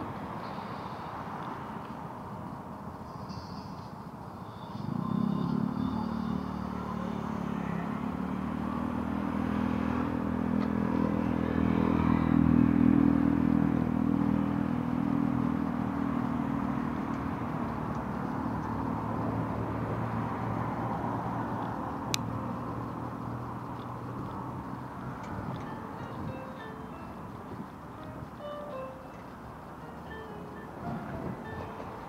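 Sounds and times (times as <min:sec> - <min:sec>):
street noise: 0:00.0 - 0:32.0
vehicle engine drone: 0:00.0 - 0:32.0.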